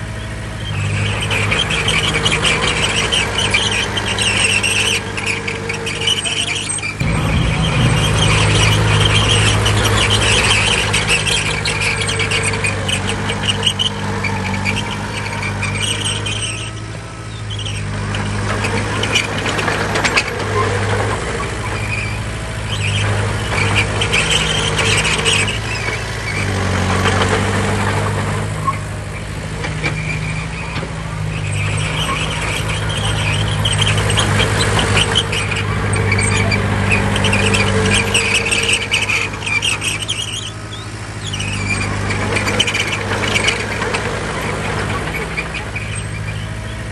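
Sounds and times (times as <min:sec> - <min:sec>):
diesel engine under load: 0:00.0 - 0:46.9
high metallic squeal: 0:00.2 - 0:46.9.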